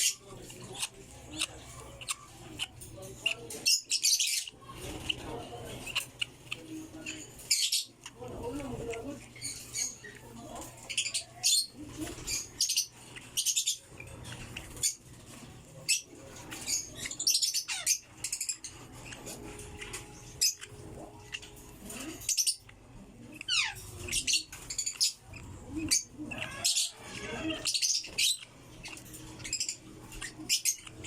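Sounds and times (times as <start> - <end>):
lovebirds chirping: 0.0 - 31.0.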